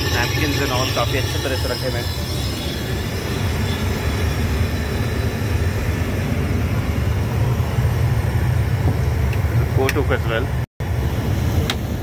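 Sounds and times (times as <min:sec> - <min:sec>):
aircraft engine drone and airflow: 0:00.0 - 0:12.0.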